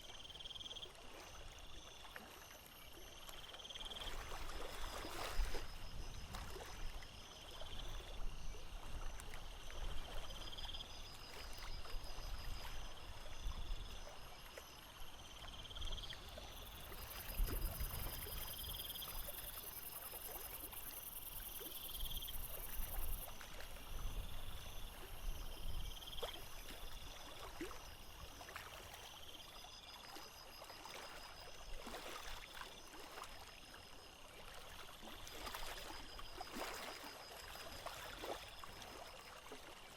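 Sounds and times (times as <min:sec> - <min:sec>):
water lapping against hull: 0:00.9 - 0:39.9.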